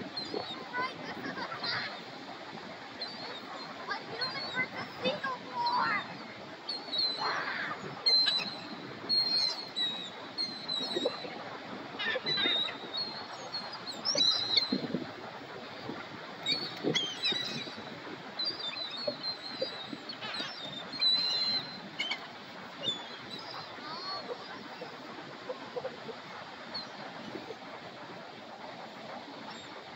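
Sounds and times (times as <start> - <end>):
gulls calling: 0.0 - 29.9.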